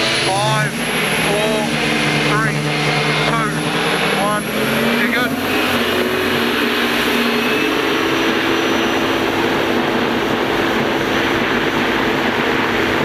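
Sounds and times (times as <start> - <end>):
faint high whine: 0.0 - 13.0
jet boat turbine rushing: 0.0 - 13.0.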